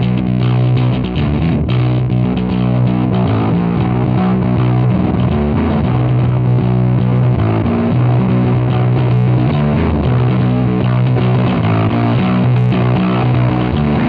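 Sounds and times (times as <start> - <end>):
distorted bass riff: 0.0 - 14.0.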